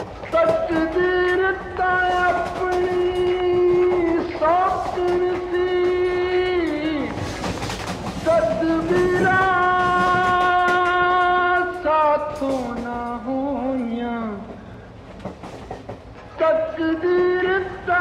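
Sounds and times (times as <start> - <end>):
person singing: 0.2 - 7.4, 8.2 - 14.6, 16.4 - 18.0.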